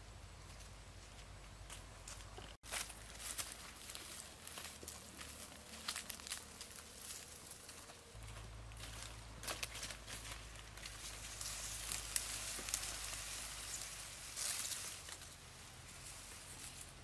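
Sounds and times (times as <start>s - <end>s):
brush rustling: 0.0s - 17.0s
footsteps through undergrowth: 0.4s - 17.0s
twigs crackling: 1.6s - 17.0s.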